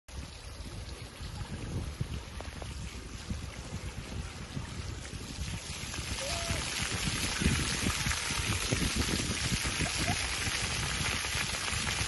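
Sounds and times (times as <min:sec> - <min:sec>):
fountain jets splashing on paving: 0:00.1 - 0:12.0.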